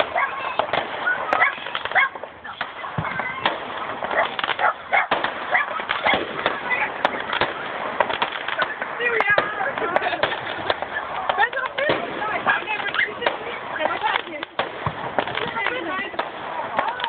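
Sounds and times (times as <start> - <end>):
crowd shouting and calling: 0.0 - 17.0
fireworks cracking and popping: 0.0 - 17.0.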